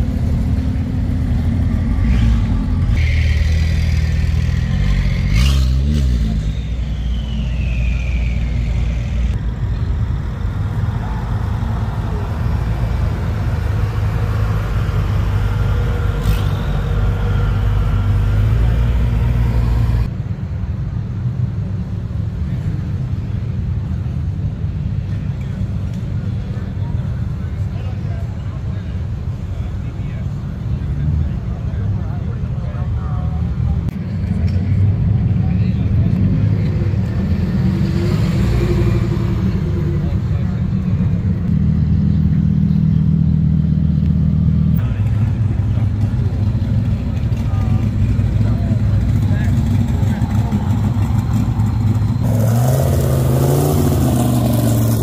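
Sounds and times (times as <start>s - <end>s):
car engines revving: 0.0s - 20.4s, 21.8s - 55.0s.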